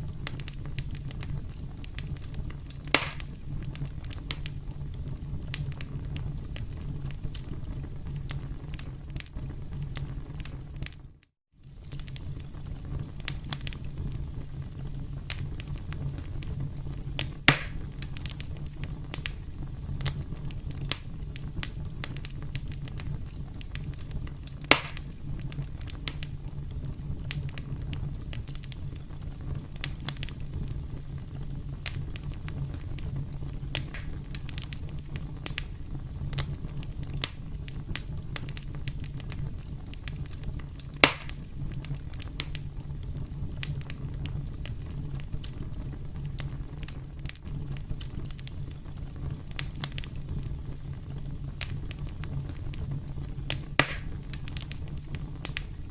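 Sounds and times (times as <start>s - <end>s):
campfire crackling: 0.0s - 55.9s
loud fire pops: 0.0s - 55.9s.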